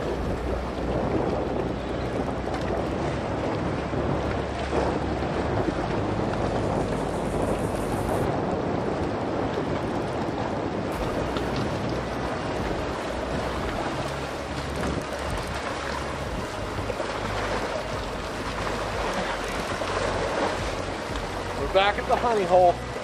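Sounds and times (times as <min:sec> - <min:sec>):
water lapping against rocks: 0:00.0 - 0:23.0
wind buffeting microphone: 0:00.0 - 0:23.0.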